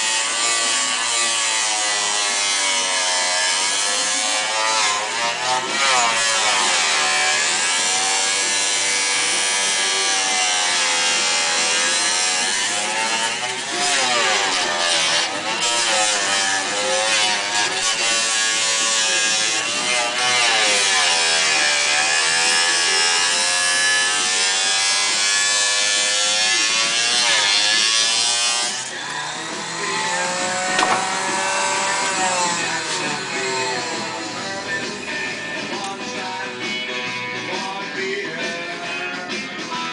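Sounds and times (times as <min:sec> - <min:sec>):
mini table saw cutting plastic: 0:00.0 - 0:36.3.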